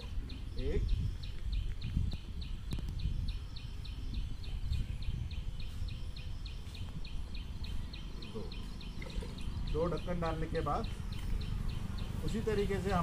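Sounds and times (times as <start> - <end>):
high chirping call: 0.0 - 13.0.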